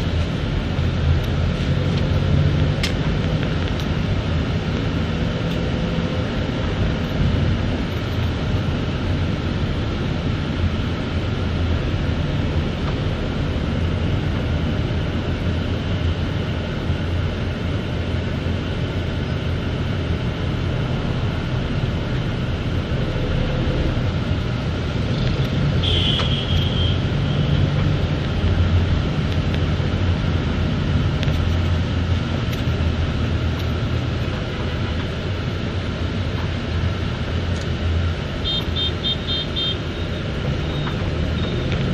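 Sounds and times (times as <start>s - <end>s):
engine and road rumble in vehicle: 0.0s - 41.9s.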